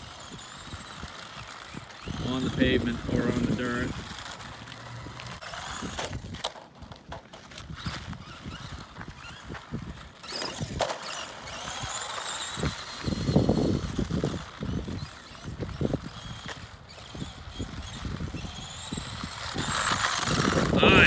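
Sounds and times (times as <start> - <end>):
faint high motor whine: 0.0 - 21.0
tyres crunching on gravel: 0.0 - 21.0.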